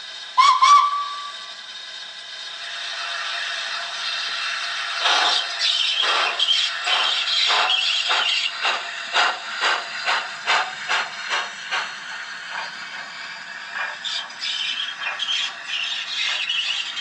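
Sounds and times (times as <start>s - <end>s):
steam hiss: 0.0s - 1.8s, 2.4s - 17.0s
steam locomotive exhaust chuffs: 0.0s - 17.0s.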